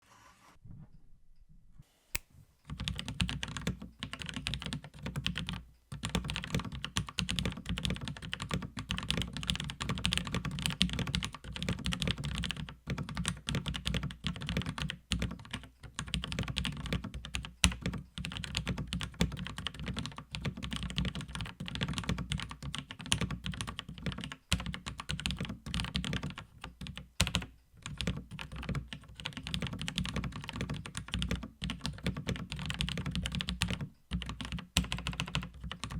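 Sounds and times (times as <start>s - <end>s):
mechanical keyboard typing: 2.7s - 35.9s.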